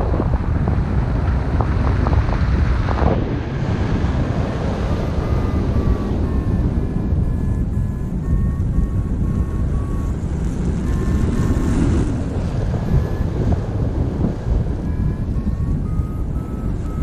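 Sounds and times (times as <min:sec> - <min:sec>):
distant aircraft engine whine: 0:00.0 - 0:17.0
wind buffeting microphone: 0:00.0 - 0:17.0.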